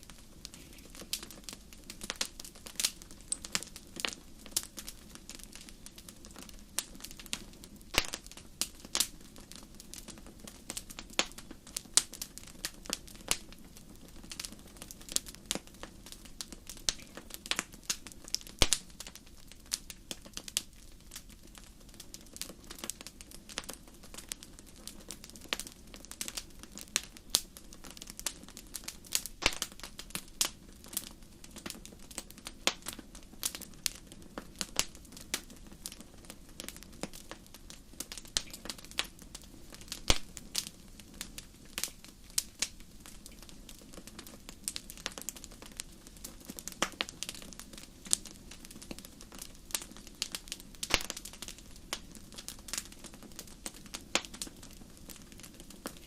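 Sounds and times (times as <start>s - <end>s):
bonfire crackling: 0.0s - 56.0s.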